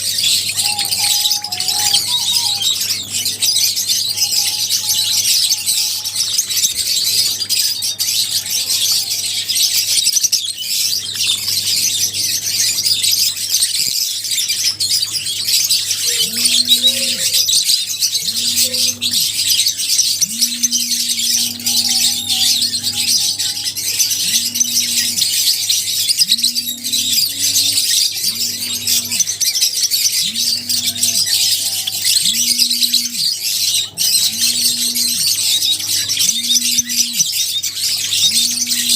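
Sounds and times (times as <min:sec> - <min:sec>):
many birds chirping: 0:00.0 - 0:38.9.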